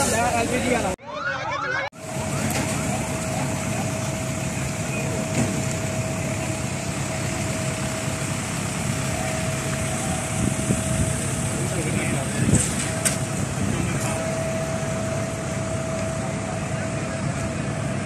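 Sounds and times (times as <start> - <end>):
vehicle engine running: 2.0 - 18.0.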